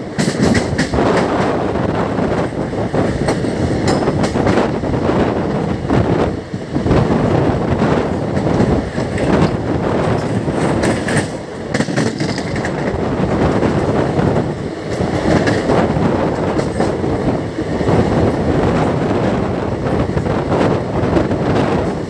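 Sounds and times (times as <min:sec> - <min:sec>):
clickety-clack over rail joints: 0:00.0 - 0:22.0
train wheels rumbling on rails: 0:00.0 - 0:22.0.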